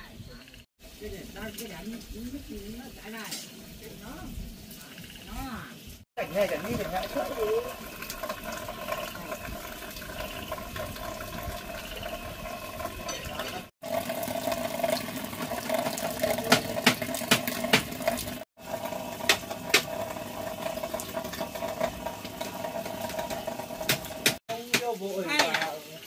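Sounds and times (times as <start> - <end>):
water running: 0.9 - 26.0.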